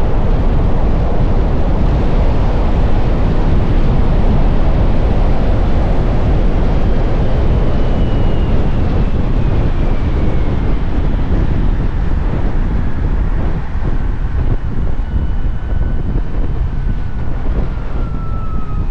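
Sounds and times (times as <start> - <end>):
wind rumble on microphone: 0.0 - 18.9
faint high whine falling in pitch: 1.8 - 18.9.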